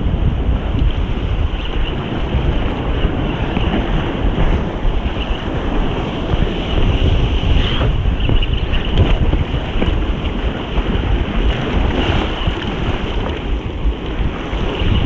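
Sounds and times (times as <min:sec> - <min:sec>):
surf breaking on rocks: 0:00.0 - 0:15.0
wind buffeting microphone: 0:00.0 - 0:15.0.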